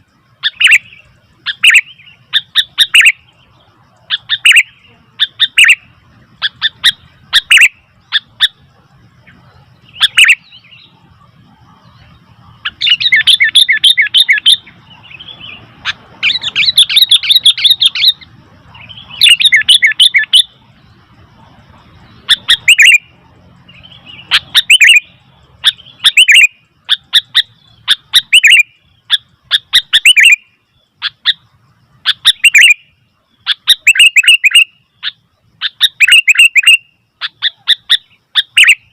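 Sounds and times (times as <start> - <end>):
bird chirps: 0.0 - 38.9.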